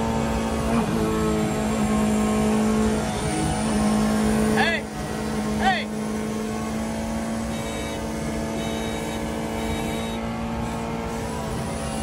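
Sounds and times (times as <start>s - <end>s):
car road and wind noise: 0.0s - 12.0s
scooter engine droning: 0.0s - 12.0s.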